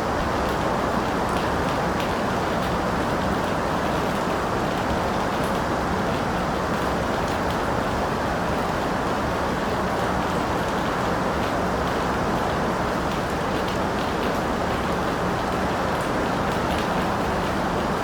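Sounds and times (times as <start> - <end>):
steady rain falling: 0.1 - 18.0.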